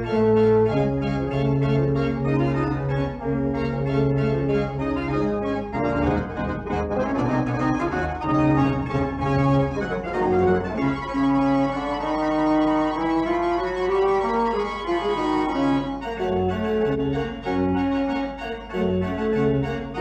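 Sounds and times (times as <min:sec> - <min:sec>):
organ-like keyboard chords: 0:00.0 - 0:20.0.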